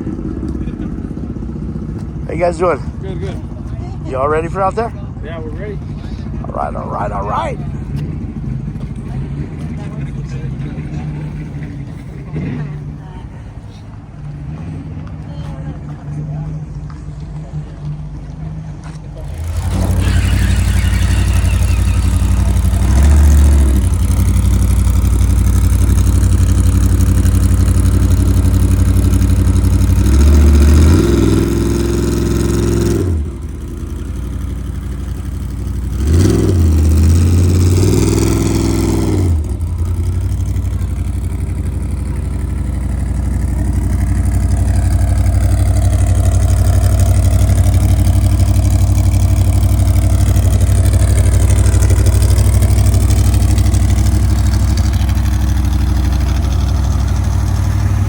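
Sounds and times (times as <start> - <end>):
race vehicle engine revving: 0.0 - 58.0.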